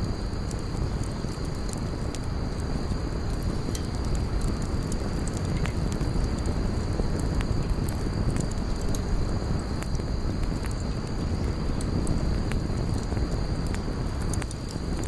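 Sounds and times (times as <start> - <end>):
burning wood crackling and popping: 0.0 - 15.0
low rumble of flames: 0.0 - 15.0.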